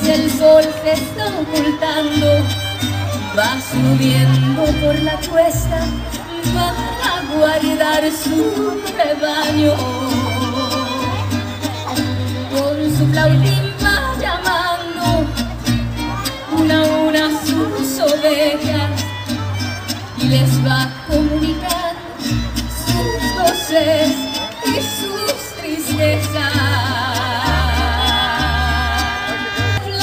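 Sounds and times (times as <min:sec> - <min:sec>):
woman singing: 0:00.0 - 0:02.6, 0:03.2 - 0:11.4, 0:12.0 - 0:19.2, 0:20.2 - 0:30.0
mariachi band playing: 0:00.0 - 0:30.0.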